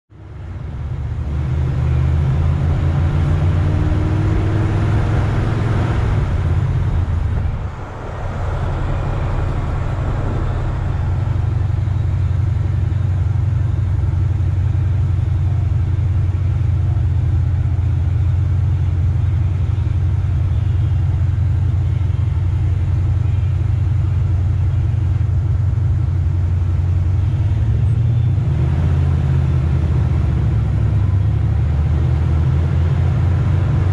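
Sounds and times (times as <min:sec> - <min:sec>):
car engine running: 0:00.1 - 0:33.9.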